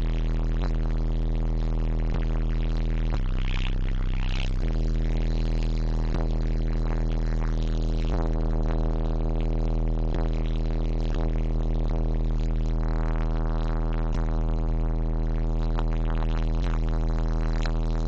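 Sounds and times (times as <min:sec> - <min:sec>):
bass-heavy music through subwoofers: 0:00.0 - 0:18.0.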